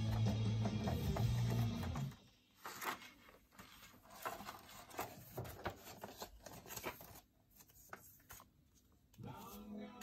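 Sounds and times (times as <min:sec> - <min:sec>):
paper booklet rustling: 0:01.0 - 0:09.8.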